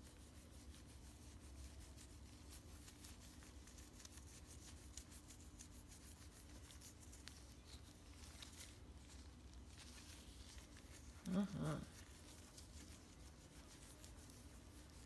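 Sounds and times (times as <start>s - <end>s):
hand scratching cat fur: 0.0s - 15.0s
low steady hum: 0.0s - 15.0s.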